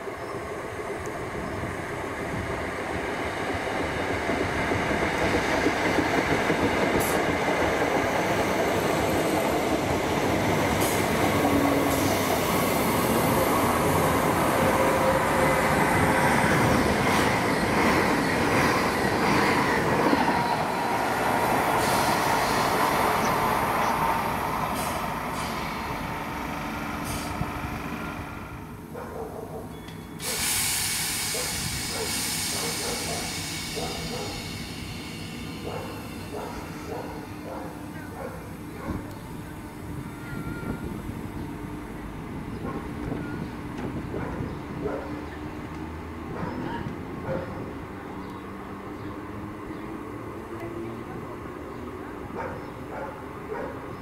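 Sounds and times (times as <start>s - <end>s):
train rolling past: 0.0s - 54.0s.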